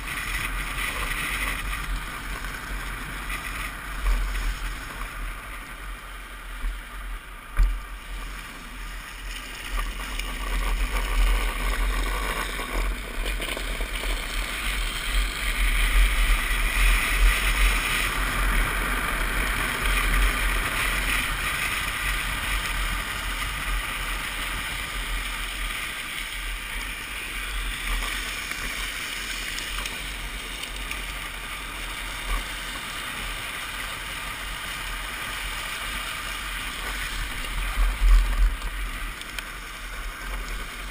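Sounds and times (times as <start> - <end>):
plastic wheels rolling on asphalt: 0.0 - 40.9.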